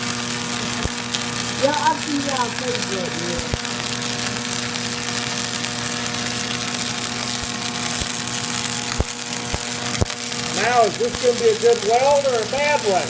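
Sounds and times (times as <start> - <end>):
welding arc crackling and hissing: 0.0 - 13.0
welding machine hum: 0.0 - 13.0
sharp pops: 0.8 - 11.4.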